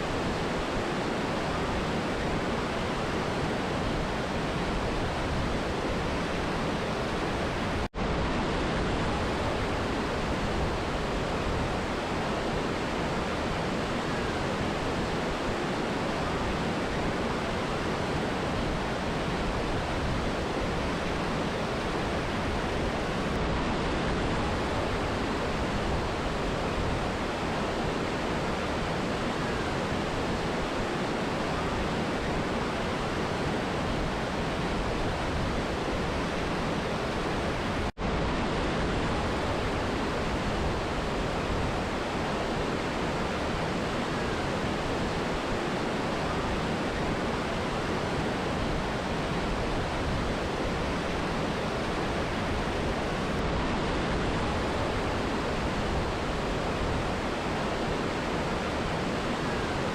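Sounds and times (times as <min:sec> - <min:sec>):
river and waterfall roaring: 0:00.0 - 0:59.9.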